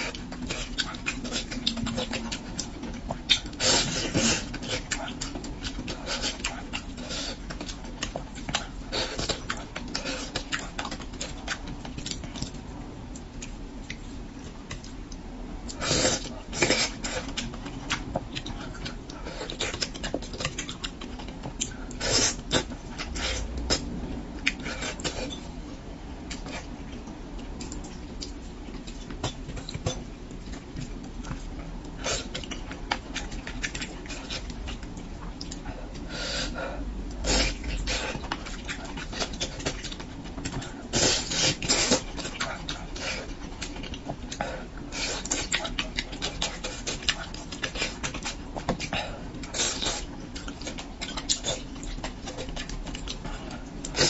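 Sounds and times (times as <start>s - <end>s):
wet chewing with mouth clicks: 0.0s - 25.6s, 26.2s - 36.1s, 37.0s - 54.0s.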